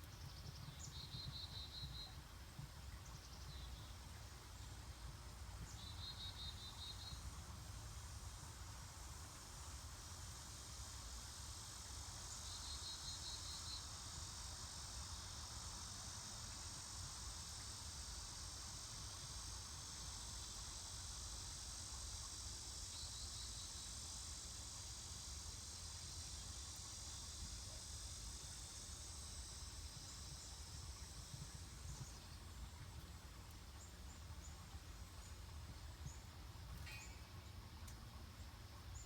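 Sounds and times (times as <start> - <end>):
insect chorus: 0.0 - 39.0.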